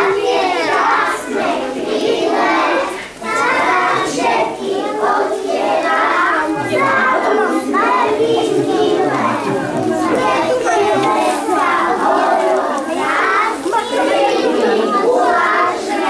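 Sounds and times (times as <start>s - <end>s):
children singing in unison: 0.0s - 16.0s.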